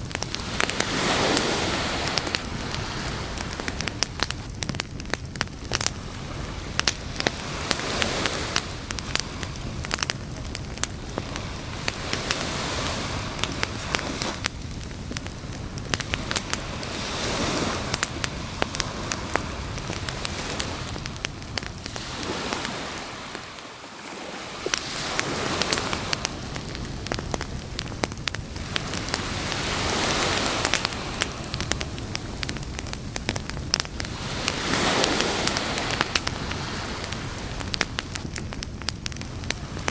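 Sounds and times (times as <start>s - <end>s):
beach surf: 0.0s - 39.9s
campfire crackling with pops: 0.0s - 39.9s.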